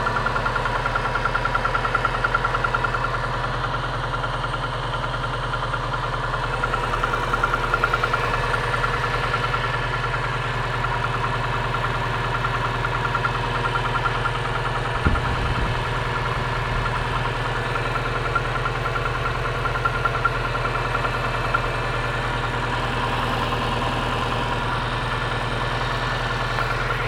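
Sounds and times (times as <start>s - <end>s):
car engine idling: 0.0s - 27.0s
engine knock ticking: 0.0s - 27.0s.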